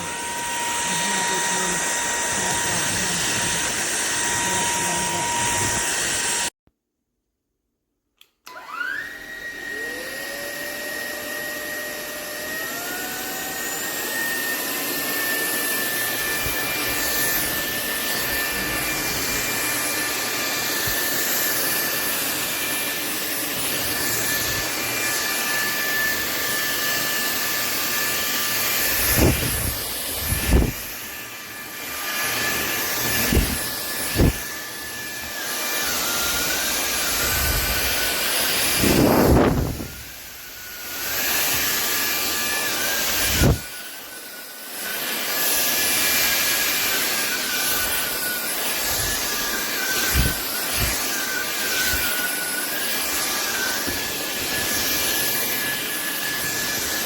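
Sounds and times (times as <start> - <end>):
vacuum motor whine: 0.0 - 6.5, 8.4 - 57.0.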